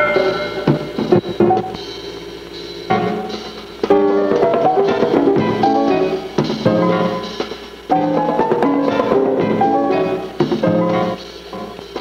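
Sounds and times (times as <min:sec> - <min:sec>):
drum strikes: 0:00.0 - 0:12.0
jazz film score music: 0:00.0 - 0:12.0.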